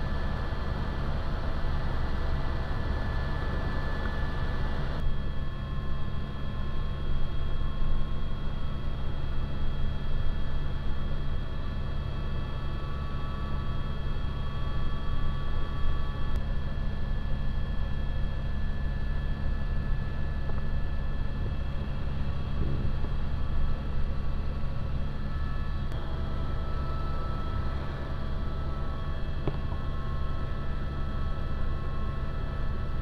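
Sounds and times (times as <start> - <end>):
helicopter rotor drone: 0.0 - 33.0
high-pitched whine: 0.0 - 33.0.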